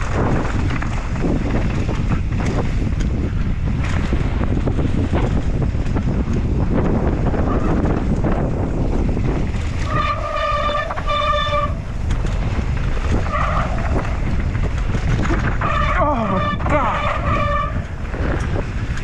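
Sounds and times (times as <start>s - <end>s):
bike rattling over dirt trail: 0.0s - 19.0s
wind buffeting microphone: 0.0s - 19.0s.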